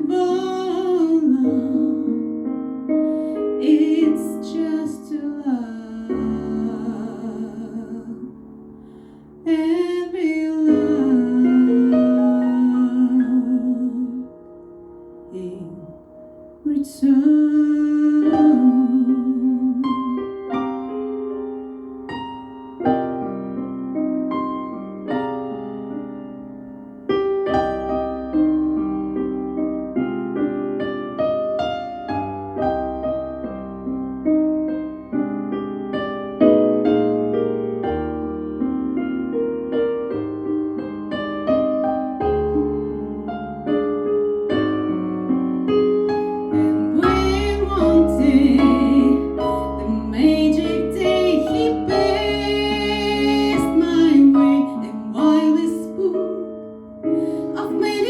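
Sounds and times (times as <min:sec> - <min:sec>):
slow piano chords: 0:00.0 - 0:58.0.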